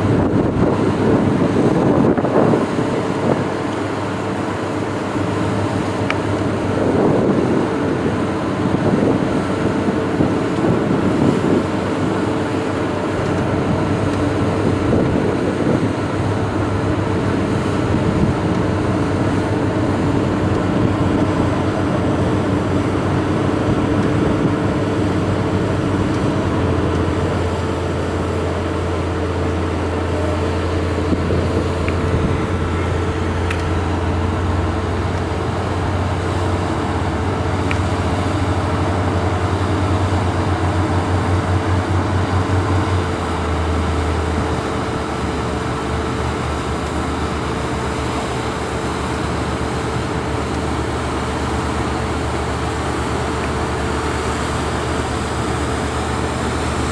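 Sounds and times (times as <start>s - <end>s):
boat engine running: 0.0s - 56.9s.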